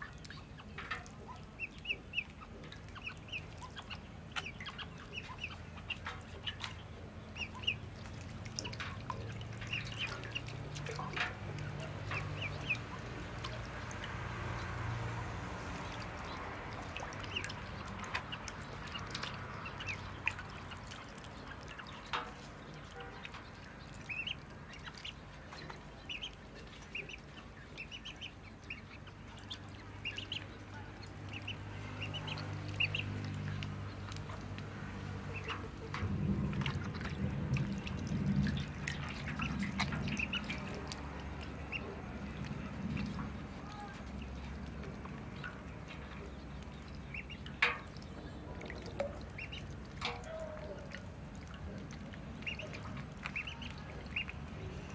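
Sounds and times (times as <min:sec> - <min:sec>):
ducklings peeping: 0:00.0 - 0:54.9
ducklings splashing in water: 0:00.0 - 0:54.9
low steady hum: 0:00.0 - 0:54.9.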